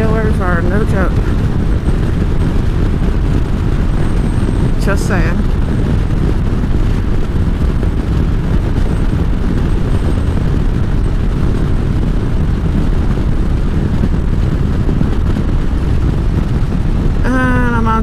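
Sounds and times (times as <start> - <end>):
motorcycle engine rumble: 0.0 - 18.0
wind rush: 0.0 - 18.0.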